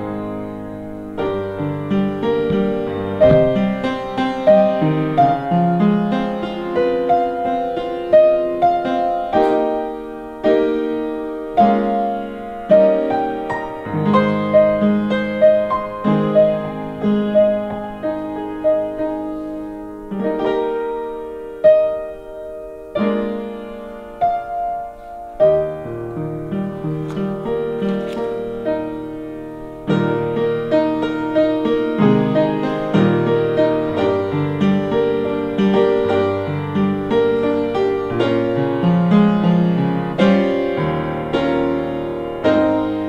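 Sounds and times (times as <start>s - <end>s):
slow gentle piano: 0.0s - 43.0s.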